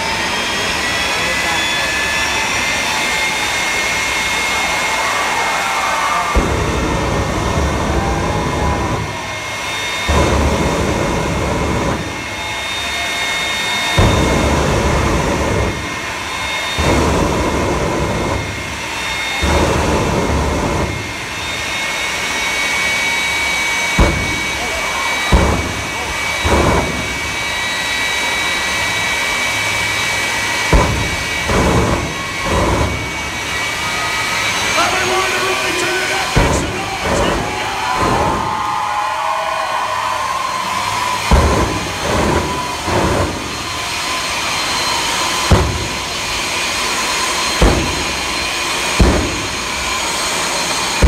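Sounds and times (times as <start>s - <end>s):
afterburner flame blasts: 0.0s - 51.0s
jet engine whining: 0.0s - 51.0s
sharp bangs: 2.6s - 51.0s.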